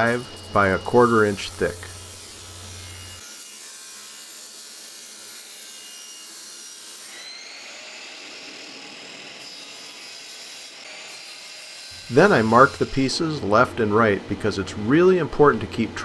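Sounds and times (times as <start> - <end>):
table saw cutting wood: 0.0 - 16.0.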